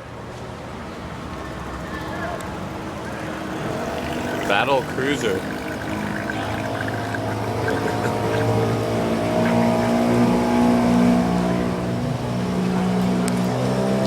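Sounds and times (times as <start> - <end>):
boat motor humming: 0.6 - 14.0.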